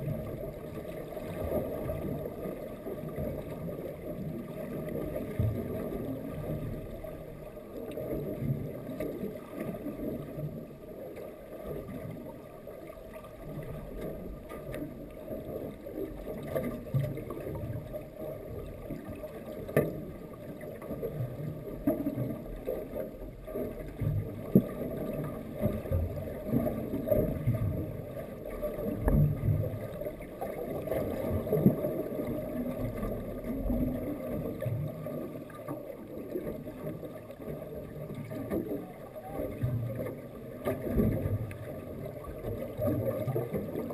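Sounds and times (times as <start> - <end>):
muffled underwater sloshing: 0.0 - 43.9.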